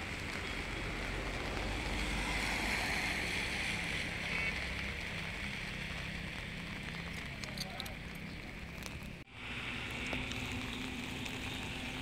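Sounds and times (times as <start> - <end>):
floodwater running over road: 0.0 - 12.0
heavy rain: 0.0 - 12.0.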